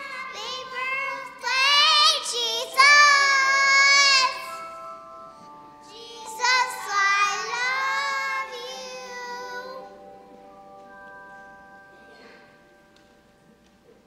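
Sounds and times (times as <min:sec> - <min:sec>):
piano chord ringing: 0:00.0 - 0:14.0.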